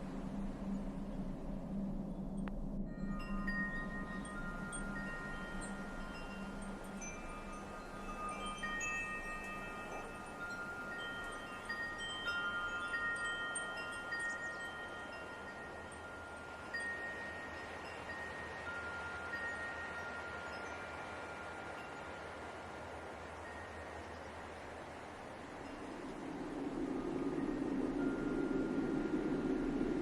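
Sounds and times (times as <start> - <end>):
light wind hiss: 0.0 - 30.0
wind chimes ringing: 2.9 - 25.0, 25.6 - 29.8.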